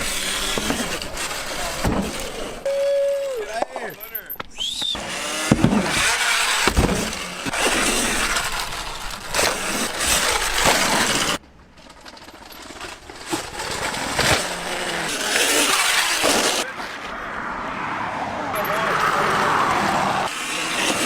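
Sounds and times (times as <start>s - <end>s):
motorcycle engine: 0.0s - 11.4s, 12.2s - 17.8s, 18.4s - 21.0s.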